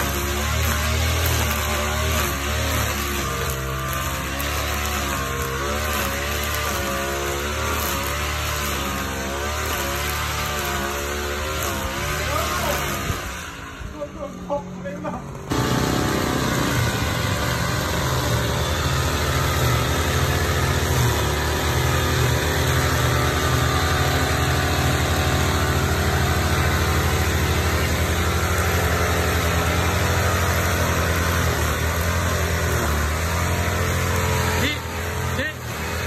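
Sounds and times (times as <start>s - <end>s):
brush cutter engine running: 0.0s - 36.0s.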